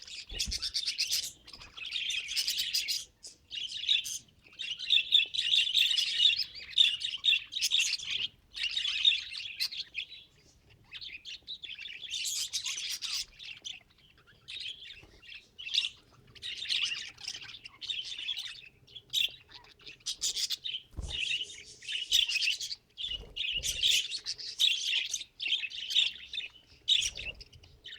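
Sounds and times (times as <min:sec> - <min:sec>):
budgerigars chattering and warbling: 0:00.0 - 0:27.9.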